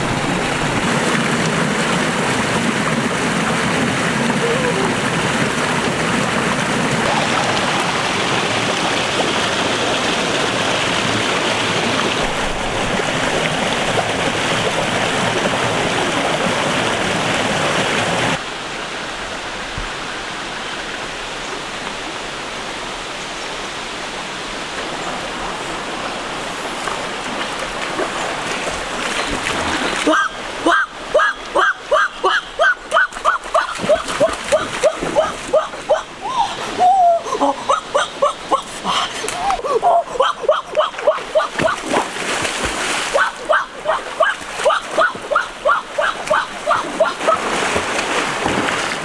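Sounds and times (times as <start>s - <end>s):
forest stream rushing: 0.0s - 49.0s
small waterfall: 0.0s - 49.0s.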